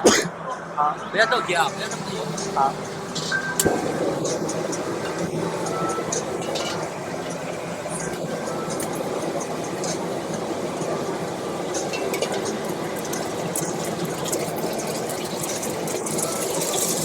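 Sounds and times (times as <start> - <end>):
food sizzling in hot oil: 1.5 - 17.0.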